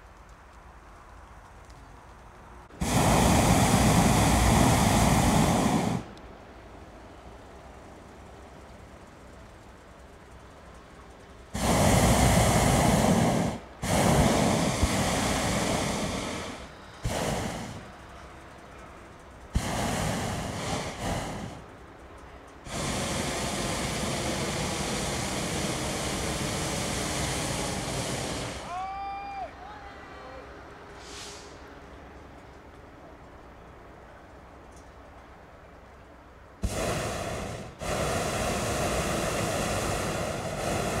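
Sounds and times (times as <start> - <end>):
propane burner roaring hiss: 0.0 - 41.0.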